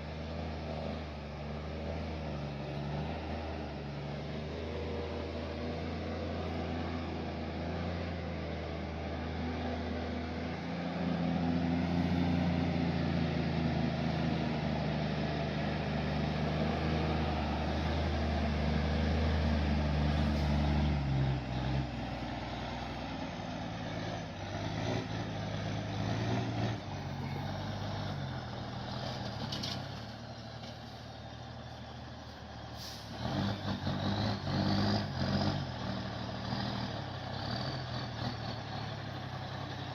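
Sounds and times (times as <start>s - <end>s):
heavy truck engine under load: 0.0s - 39.9s.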